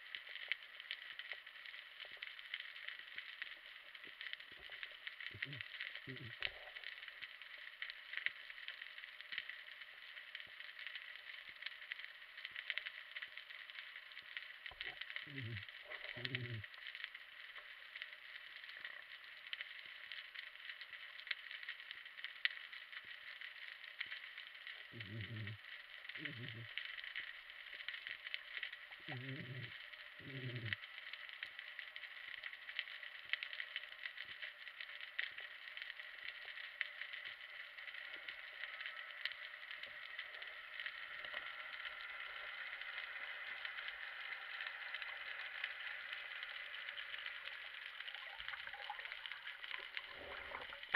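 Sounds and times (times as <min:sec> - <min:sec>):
faint steady whine: 0:00.0 - 0:50.9
underwater crackle of tiny clicks: 0:00.0 - 0:50.9.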